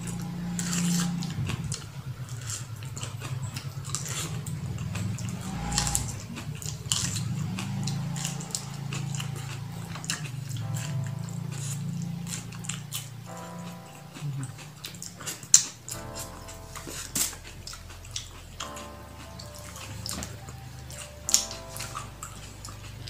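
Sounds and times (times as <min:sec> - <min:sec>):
low steady hum: 0:00.0 - 0:23.0
mouth clicks: 0:00.0 - 0:23.0
person chewing corn: 0:00.0 - 0:23.0.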